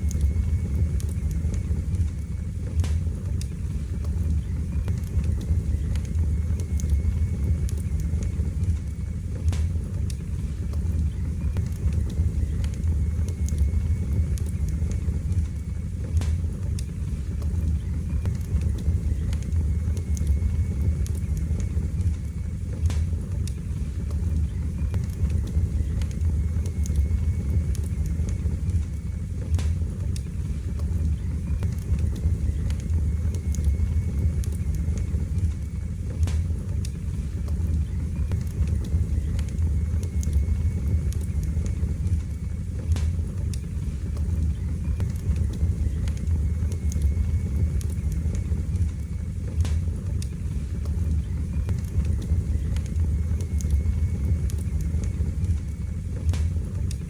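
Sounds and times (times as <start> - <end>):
fire crackles and pops: 0.0 - 57.0
flames rumbling in fireplace: 0.0 - 57.0.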